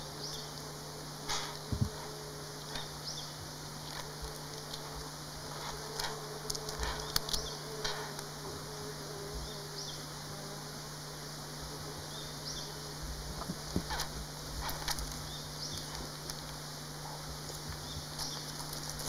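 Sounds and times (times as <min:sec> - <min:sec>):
insect buzzing: 0:00.0 - 0:19.0
steady low hum: 0:00.0 - 0:19.0.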